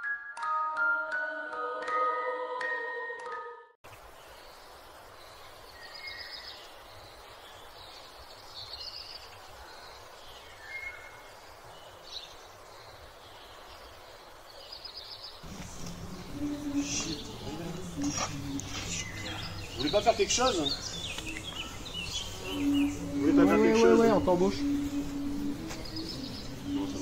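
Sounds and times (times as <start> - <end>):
outdoor background hiss: 3.8 - 27.0
small birds chirping: 3.9 - 27.0.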